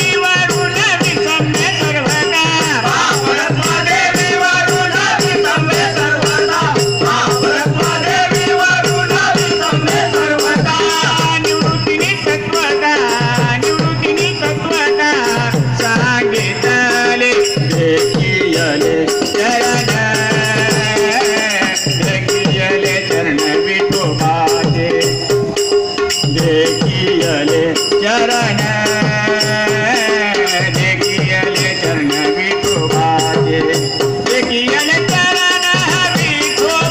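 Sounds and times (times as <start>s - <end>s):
small hand cymbals beat: 0.0s - 36.9s
voices singing devotional song: 0.0s - 36.9s.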